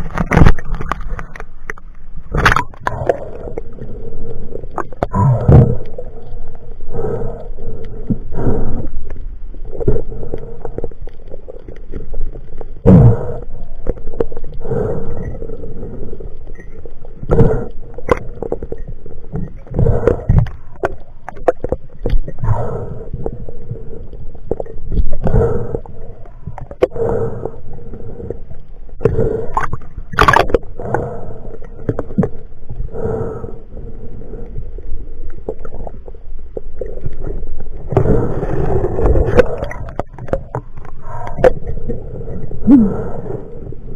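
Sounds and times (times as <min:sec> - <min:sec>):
underwater whooshing and gurgling: 0:00.0 - 0:43.9.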